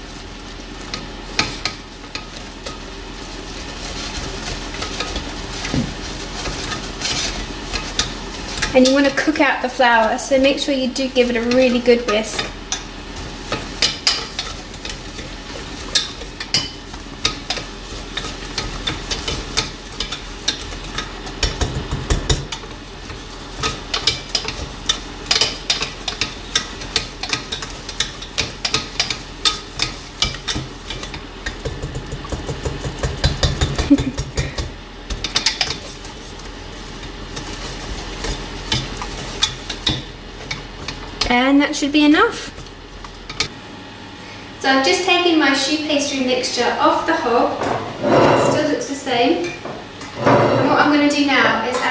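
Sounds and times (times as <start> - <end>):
whisk tapping and scraping pan: 0.0 - 43.5.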